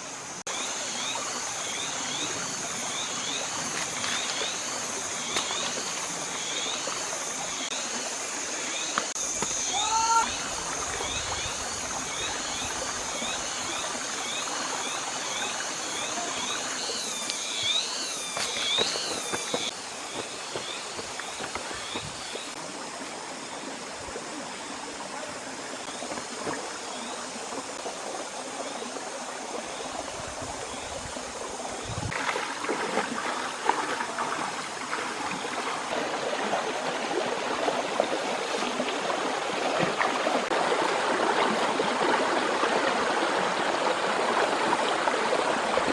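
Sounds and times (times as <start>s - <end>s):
flowing water: 0.0s - 45.9s.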